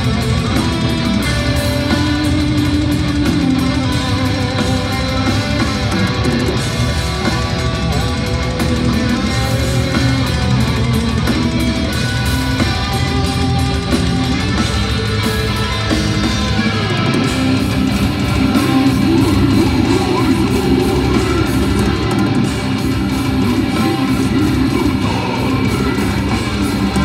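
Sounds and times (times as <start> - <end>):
bass and drums: 0.0 - 27.0
distorted electric guitars: 0.0 - 27.0.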